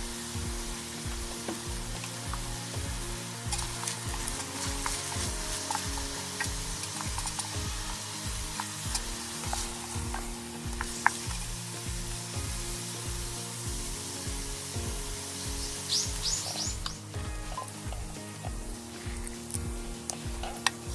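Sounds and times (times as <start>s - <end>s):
campfire crackles: 0.0s - 20.9s
food sizzling in a pot: 0.0s - 20.9s
stirring in a pot: 0.0s - 20.9s.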